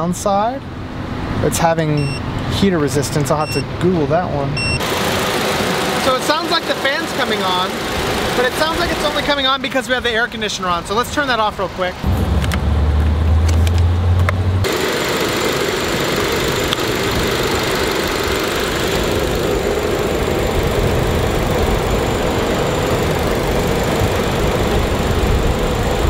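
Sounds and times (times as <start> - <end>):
radiator cooling fan running: 0.0 - 12.8, 13.6 - 26.0
car engine idling: 2.9 - 13.8, 14.6 - 26.0.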